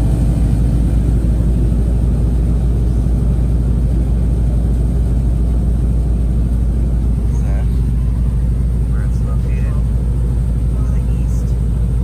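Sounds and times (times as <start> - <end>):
train rumbling from inside: 0.0 - 12.0.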